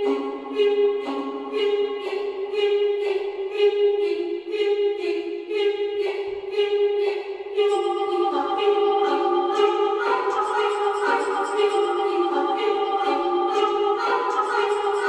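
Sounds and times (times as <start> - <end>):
choir-like background music: 0.0 - 15.0.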